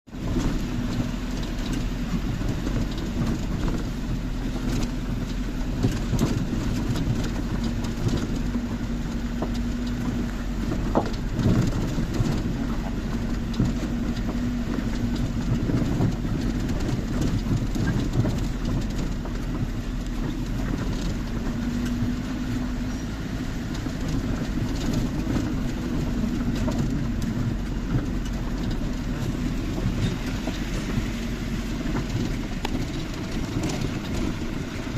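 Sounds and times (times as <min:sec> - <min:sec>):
vehicle rumble: 0:00.0 - 0:34.9
light rattles and clicks: 0:00.1 - 0:34.9.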